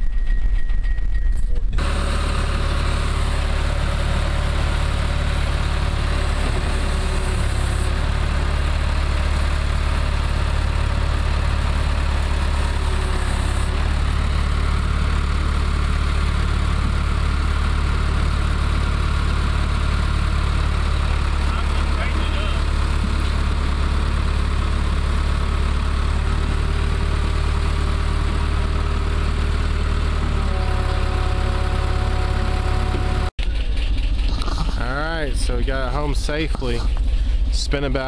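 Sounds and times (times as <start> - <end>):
road rumble inside vehicle: 0.0 - 38.0
diesel truck engine idling: 1.5 - 38.0.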